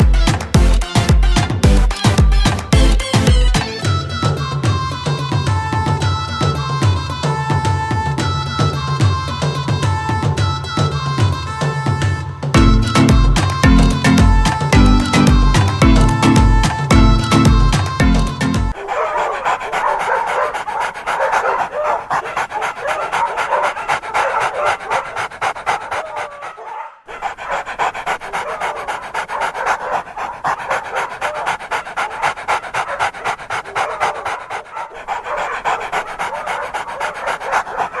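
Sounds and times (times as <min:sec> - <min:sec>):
dog panting: 0:00.0 - 0:07.5, 0:12.5 - 0:38.0.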